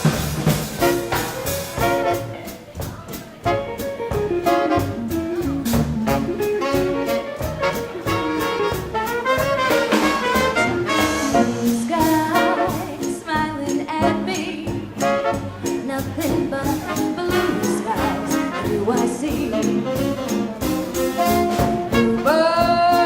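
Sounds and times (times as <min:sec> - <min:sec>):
horns: 0:00.0 - 0:23.0
swing band playing: 0:00.0 - 0:23.0.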